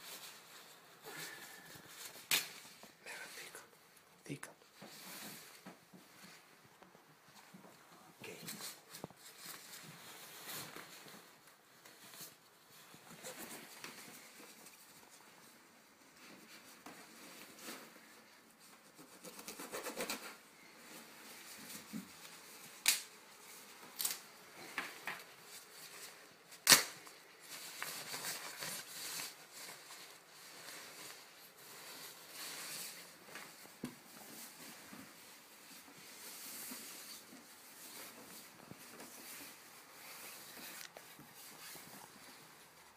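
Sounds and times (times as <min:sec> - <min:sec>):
fabric rustling and crumpling: 0:00.0 - 0:19.0, 0:20.3 - 0:42.9.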